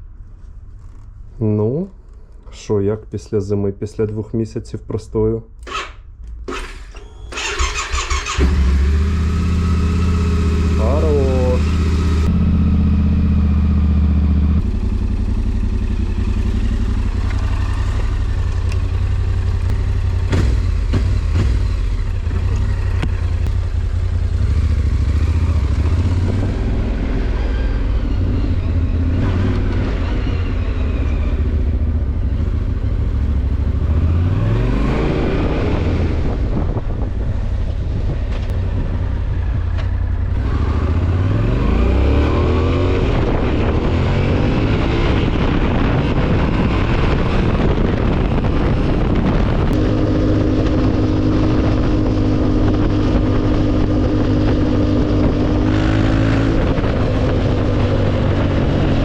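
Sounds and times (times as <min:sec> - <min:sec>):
motorcycle engine revving: 0:05.6 - 0:59.0.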